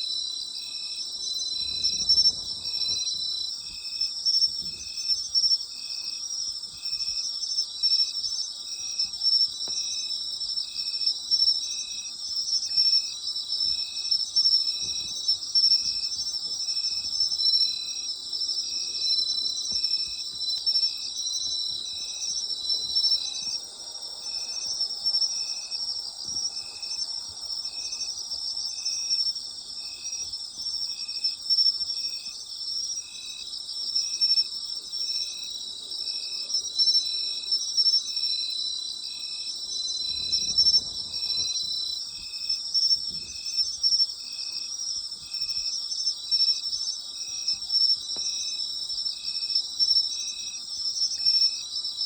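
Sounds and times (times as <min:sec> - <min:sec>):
insect chirping rhythmically: 0:00.0 - 0:52.0
insects trilling: 0:00.0 - 0:52.0.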